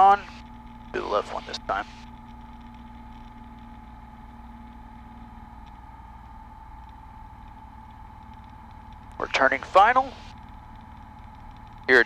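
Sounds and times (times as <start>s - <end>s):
propeller engine droning: 0.0s - 12.0s
steady tone: 0.0s - 12.0s.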